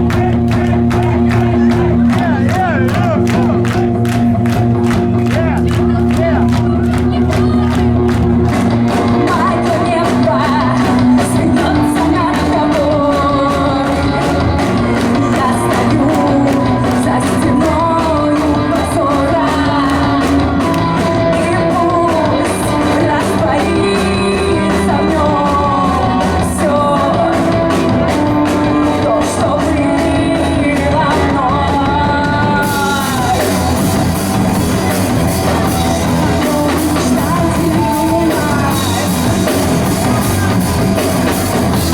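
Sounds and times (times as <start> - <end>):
rock band playing live: 0.0 - 41.9
person singing: 5.2 - 41.9.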